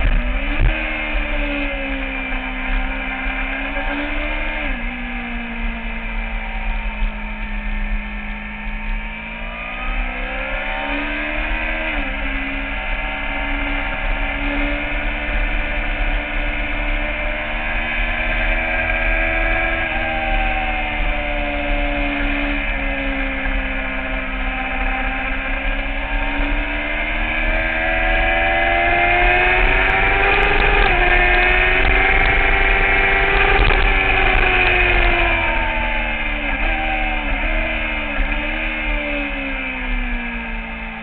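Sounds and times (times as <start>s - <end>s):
motorcycle engine running hard: 0.0s - 41.0s.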